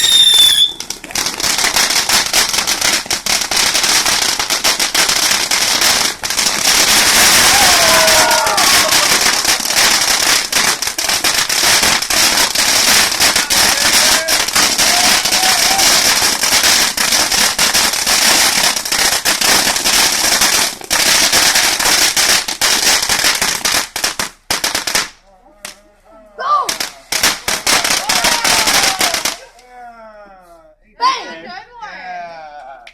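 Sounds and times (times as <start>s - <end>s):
firecrackers popping: 0.0s - 25.9s, 26.6s - 29.6s.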